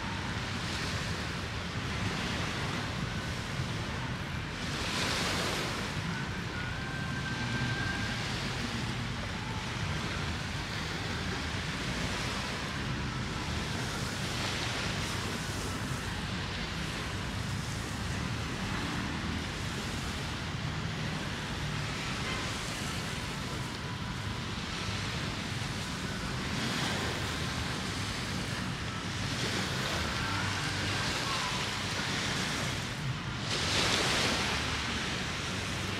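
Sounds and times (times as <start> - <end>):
small waves washing on beach: 0.0 - 35.9
wind rumble on microphone: 0.0 - 35.9.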